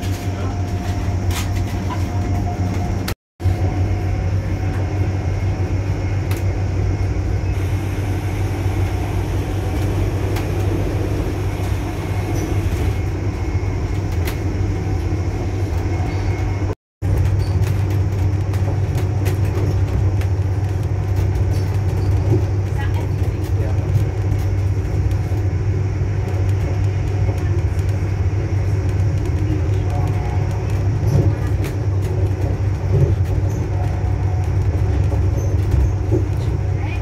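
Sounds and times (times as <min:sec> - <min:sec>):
diesel train drone: 0:00.0 - 0:37.0.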